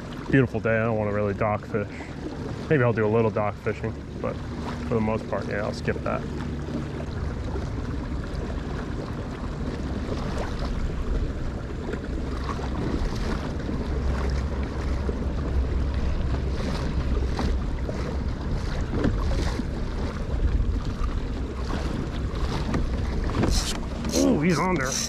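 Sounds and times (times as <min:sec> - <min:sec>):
water splashing along kayak hull: 0:00.0 - 0:25.0.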